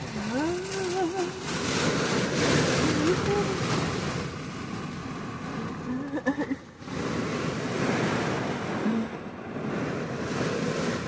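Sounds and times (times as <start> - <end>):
heavy rain on car roof: 0.0 - 11.0
wind buffeting car: 0.0 - 11.0.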